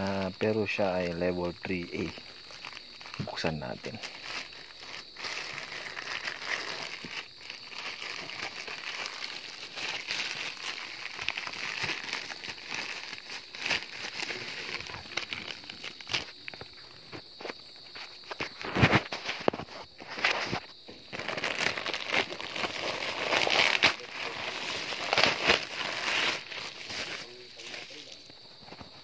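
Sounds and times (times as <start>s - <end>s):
plastic mailer bag crinkling: 0.0s - 17.1s, 18.0s - 28.3s.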